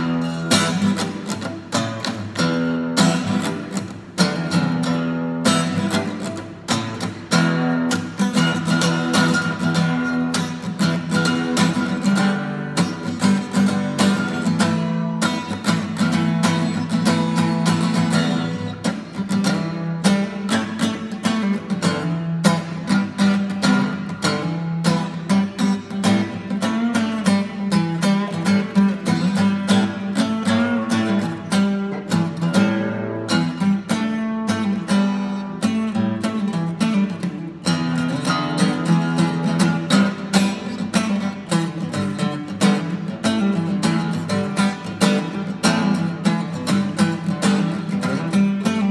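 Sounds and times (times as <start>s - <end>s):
acoustic guitar strummed: 0.0s - 48.9s.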